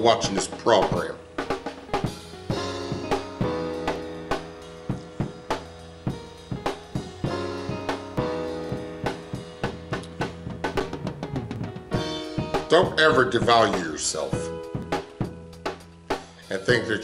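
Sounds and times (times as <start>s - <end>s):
drum kit beat: 0.0s - 17.0s
held chords: 0.0s - 17.0s.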